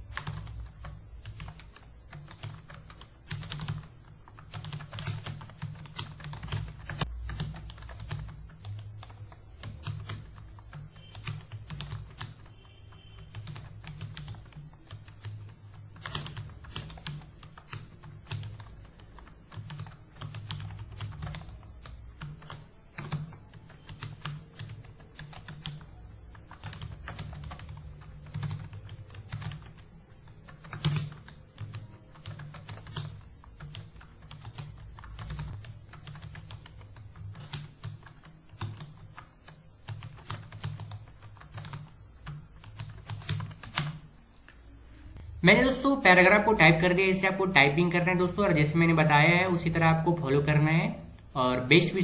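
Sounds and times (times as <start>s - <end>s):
keyboard typing clicks: 0.0s - 44.7s.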